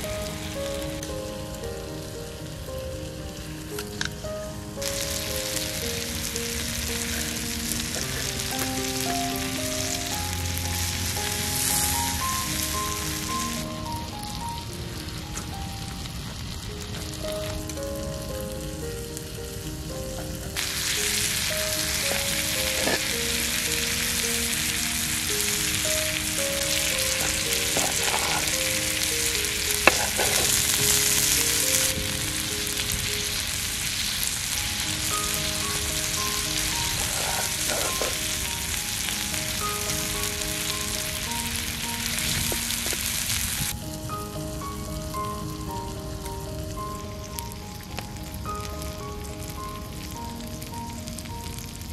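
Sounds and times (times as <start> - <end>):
meat sizzling in fat: 0.0 - 51.9
soft melody of single notes: 0.0 - 51.9.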